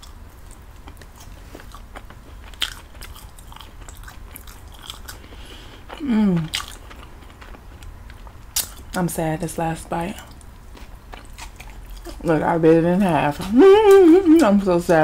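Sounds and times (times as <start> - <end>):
person chewing pizza: 0.0 - 9.0, 10.0 - 14.6.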